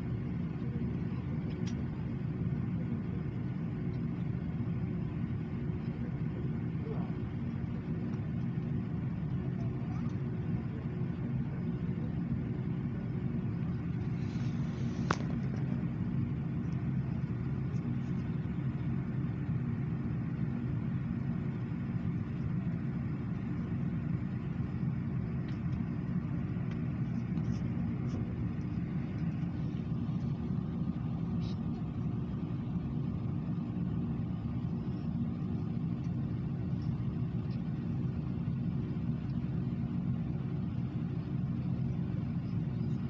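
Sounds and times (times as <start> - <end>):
airplane cabin drone: 0.0 - 43.0
faint steady hums: 0.0 - 43.0.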